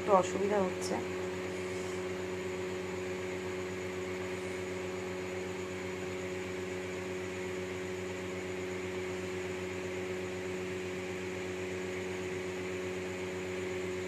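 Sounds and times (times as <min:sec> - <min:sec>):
electrical hum with held tones: 0:00.0 - 0:14.0.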